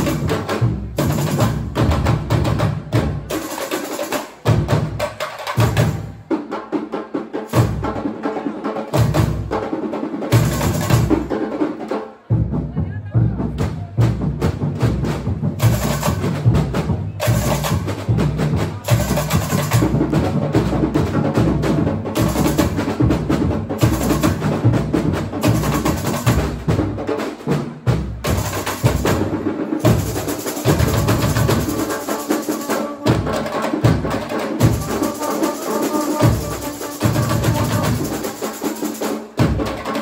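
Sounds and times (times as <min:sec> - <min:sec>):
snare drums rattling: 0:00.0 - 0:06.6, 0:14.4 - 0:40.0.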